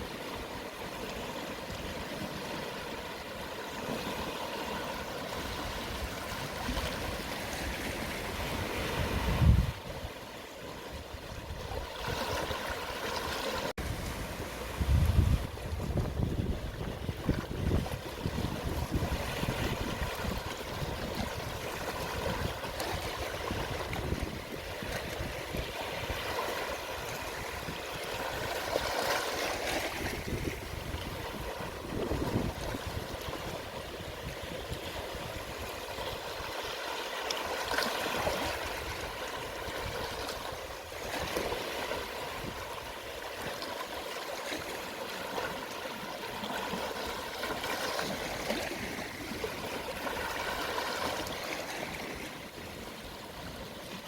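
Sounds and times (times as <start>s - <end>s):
gentle sea waves washing on shore: 0.0s - 54.0s.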